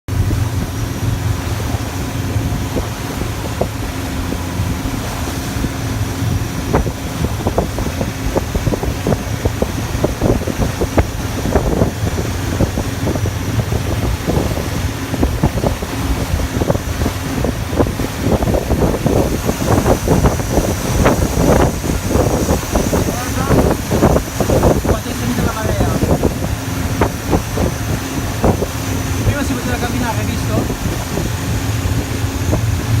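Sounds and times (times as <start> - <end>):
boat engine running: 0.1 - 33.0
hull knocking and splashing on waves: 0.1 - 33.0
wind buffeting microphone: 0.1 - 33.0.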